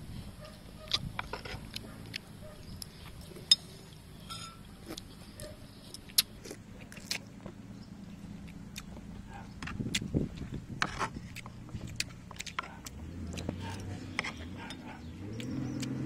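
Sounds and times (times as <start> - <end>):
children chewing: 0.4 - 16.0.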